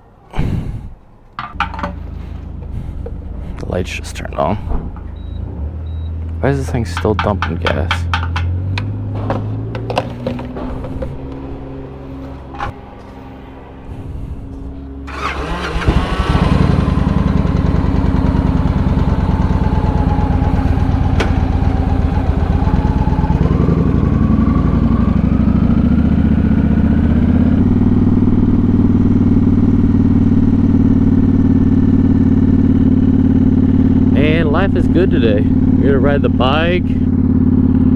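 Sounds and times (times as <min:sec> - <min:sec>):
motorcycle engine starting and idling: 0:01.3 - 0:37.9.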